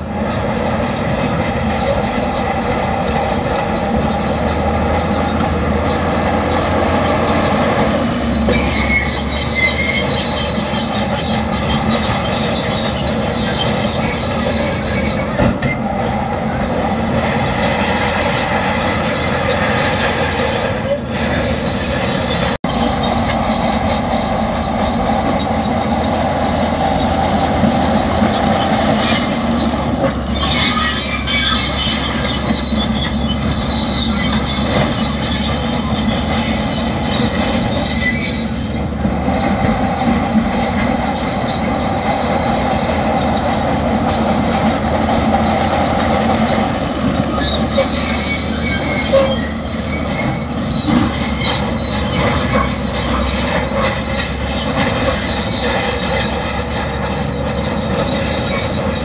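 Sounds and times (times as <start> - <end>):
bulldozer diesel engine: 0.0 - 59.0
steel tracks squealing: 0.0 - 59.0.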